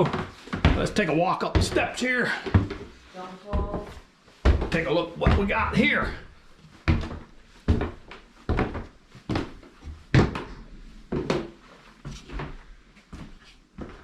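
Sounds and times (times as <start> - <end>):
footsteps climbing stairs: 0.0 - 14.0.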